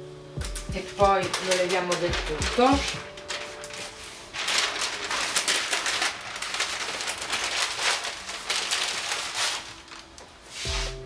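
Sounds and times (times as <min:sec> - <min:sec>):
paper rustling and crackling: 0:00.5 - 0:11.0.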